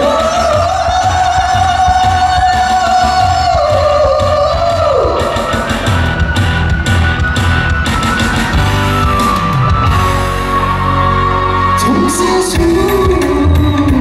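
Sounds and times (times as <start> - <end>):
drums: 0.0 - 14.0
live band music: 0.0 - 14.0.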